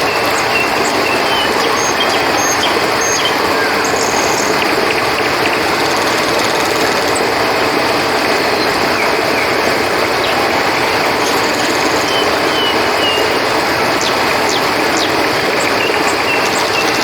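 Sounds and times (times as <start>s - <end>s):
high cricket chirps: 0.0s - 17.0s
river water flowing: 0.0s - 17.0s.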